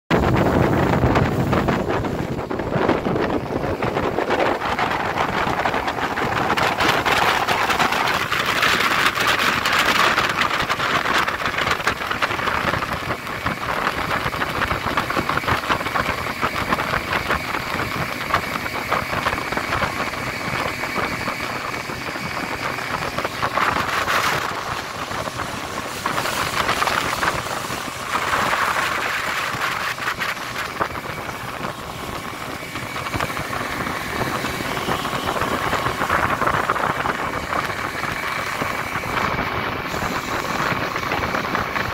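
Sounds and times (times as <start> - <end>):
speedboat engine drone: 0.1 - 41.9
wind on microphone: 0.1 - 41.9
water hissing off hull: 0.2 - 41.9.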